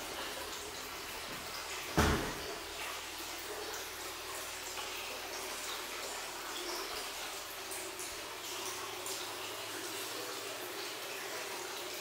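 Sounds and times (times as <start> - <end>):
water drips: 0.0 - 12.0
water splashing into wooden bath: 0.0 - 12.0.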